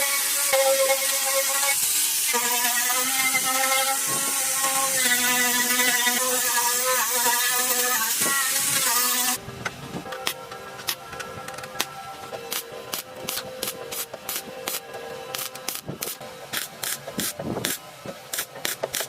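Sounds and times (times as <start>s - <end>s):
electric power tool whining: 0.0s - 19.0s.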